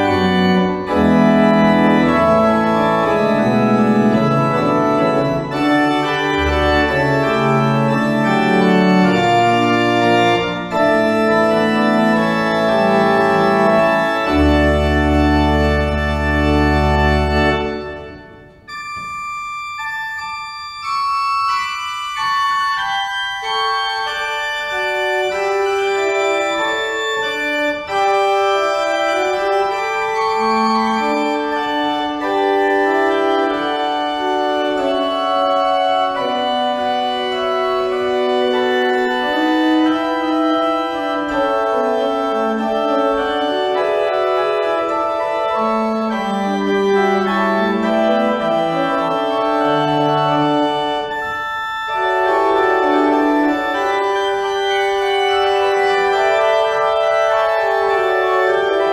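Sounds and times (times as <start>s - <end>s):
deep organ pedal bass notes: 0.0s - 18.9s, 22.2s - 58.9s
pipe organ playing chords: 0.0s - 58.9s.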